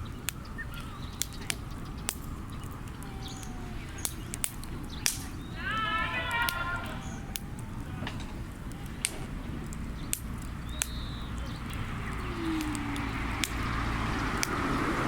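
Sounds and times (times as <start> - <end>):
logs popping: 0.0 - 15.0
low fire rumble: 0.0 - 15.0
wood fire crackling: 0.0 - 15.0.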